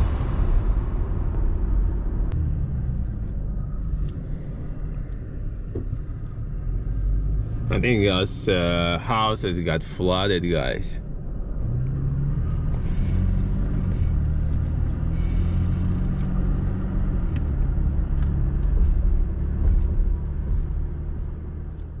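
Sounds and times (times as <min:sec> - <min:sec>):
car engine hum: 0:00.0 - 0:22.0
road rumble: 0:00.0 - 0:22.0.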